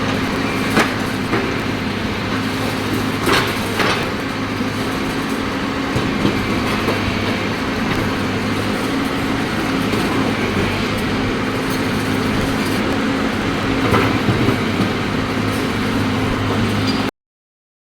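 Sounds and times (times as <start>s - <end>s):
diesel excavator engine running: 0.0s - 17.1s
excavator knocking on concrete: 0.0s - 17.1s.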